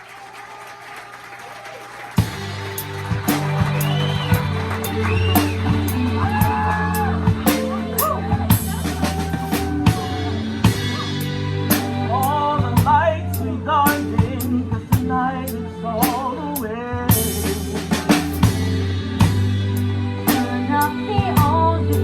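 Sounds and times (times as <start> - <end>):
drum kit: 2.1 - 15.2, 16.0 - 22.0
bass line: 2.2 - 22.0
live pop-rock band: 2.2 - 22.0
person singing: 2.8 - 22.0.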